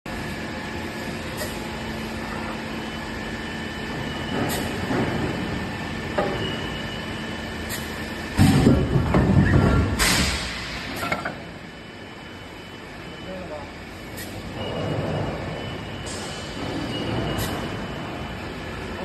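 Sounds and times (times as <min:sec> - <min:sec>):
forging machine humming: 0:00.1 - 0:19.0.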